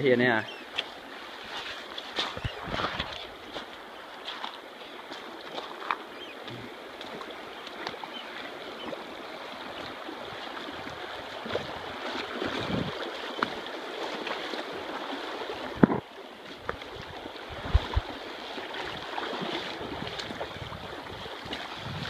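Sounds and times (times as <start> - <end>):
river water splashing around legs: 0.5 - 22.0.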